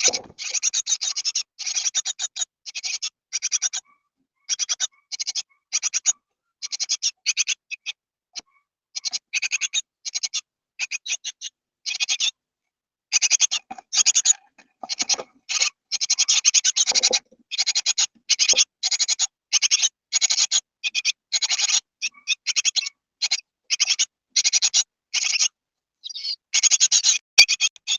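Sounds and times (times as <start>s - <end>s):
nestlings raspy begging calls: 0.0s - 12.4s, 13.1s - 27.9s.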